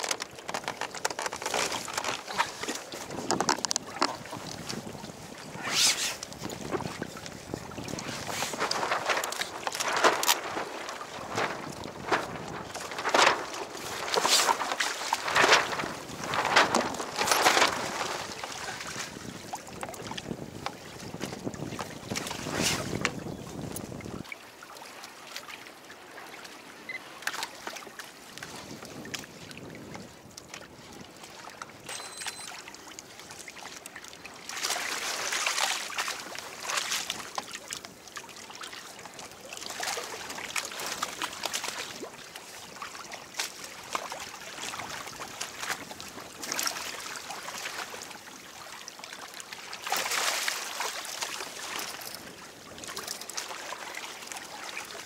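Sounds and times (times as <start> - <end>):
water splashing against kayak hull: 0.0 - 25.4, 26.4 - 55.0.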